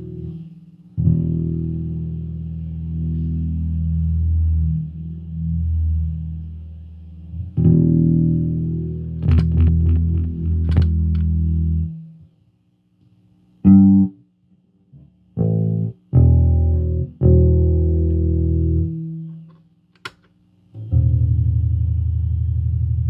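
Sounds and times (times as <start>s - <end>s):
bass guitar notes: 0.0s - 12.2s, 15.0s - 19.5s, 20.8s - 23.0s.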